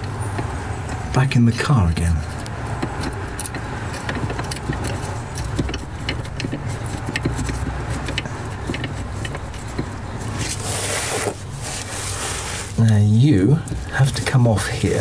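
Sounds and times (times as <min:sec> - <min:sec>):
small metal clicks and scrapes: 0:00.0 - 0:13.0.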